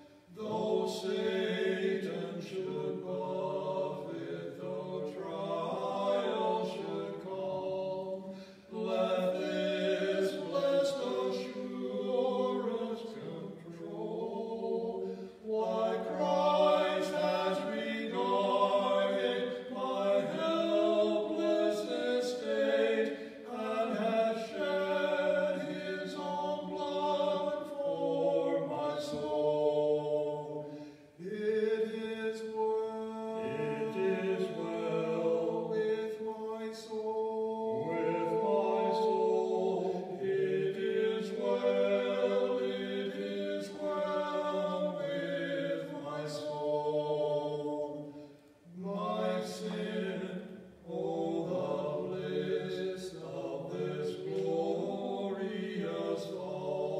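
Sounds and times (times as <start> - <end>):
men singing a hymn: 0.0 - 56.9.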